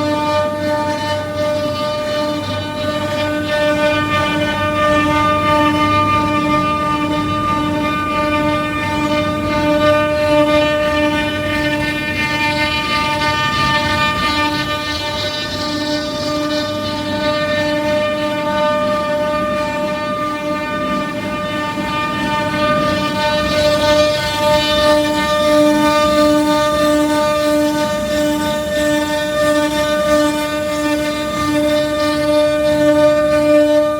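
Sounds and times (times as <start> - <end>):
router spindle whine: 0.0 - 33.9.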